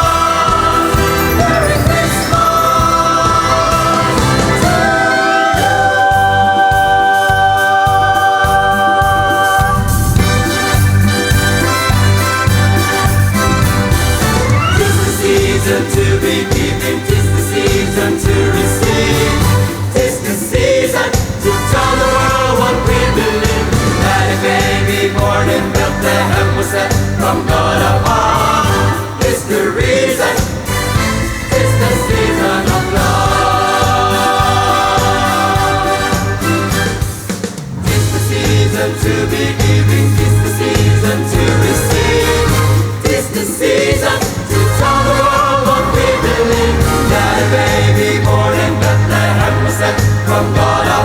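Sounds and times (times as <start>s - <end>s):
pulsing bass: 0.0s - 19.8s, 21.5s - 29.2s, 30.7s - 37.0s, 37.9s - 51.0s
band playing: 0.0s - 51.0s
voices singing over music: 0.0s - 51.0s.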